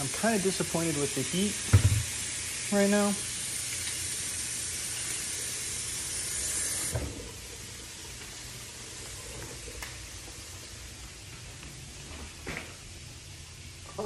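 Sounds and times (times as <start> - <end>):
shrimp sizzling in frying pan: 0.0 - 11.3.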